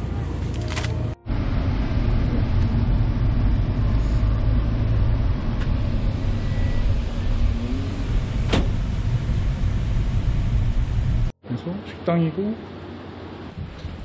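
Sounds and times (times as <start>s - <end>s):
low rumble: 0.0s - 11.3s.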